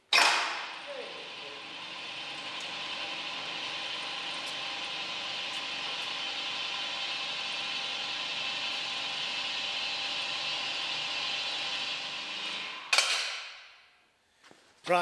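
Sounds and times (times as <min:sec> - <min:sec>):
vehicle lift whirring and hissing: 0:00.4 - 0:13.7.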